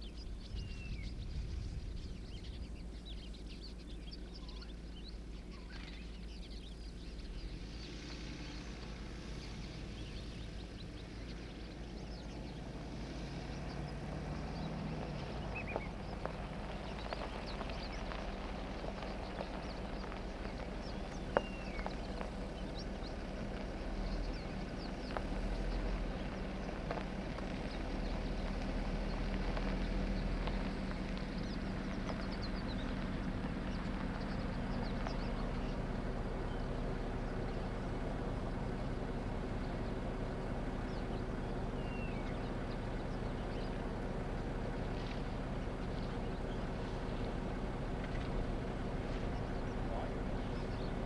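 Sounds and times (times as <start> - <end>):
bird chirps: 0.0 - 51.0
vehicle engine idling: 0.0 - 51.0.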